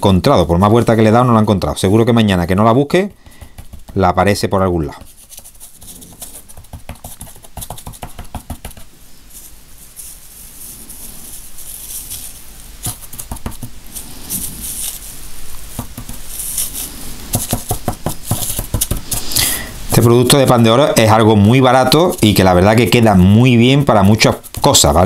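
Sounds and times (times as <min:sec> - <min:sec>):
hands crackling rustling and tapping: 0:02.4 - 0:25.0.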